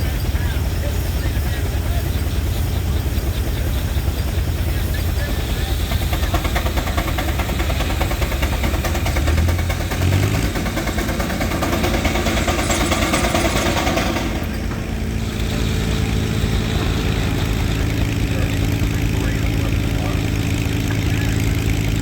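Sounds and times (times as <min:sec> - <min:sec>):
deep rumble: 0:00.0 - 0:22.0
sawmill machinery din: 0:00.0 - 0:22.0.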